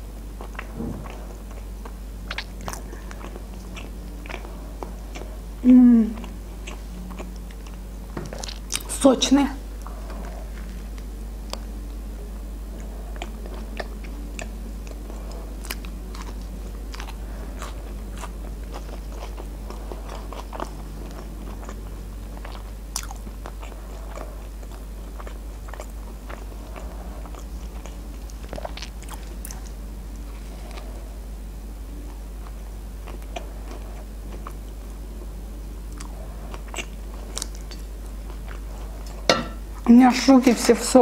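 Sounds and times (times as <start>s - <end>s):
biting and chewing a burger: 0.0s - 5.6s, 6.2s - 8.9s, 9.7s - 39.9s
steady low hum: 0.0s - 41.0s.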